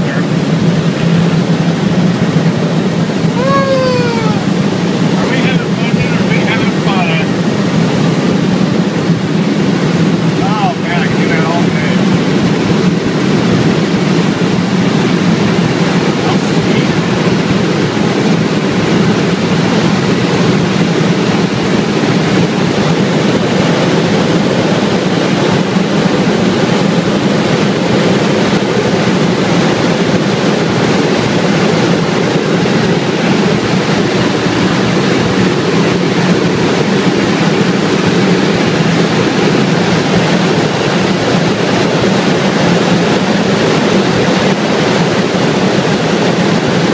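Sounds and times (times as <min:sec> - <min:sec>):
helicopter engine and rotors: 0:00.0 - 0:46.9.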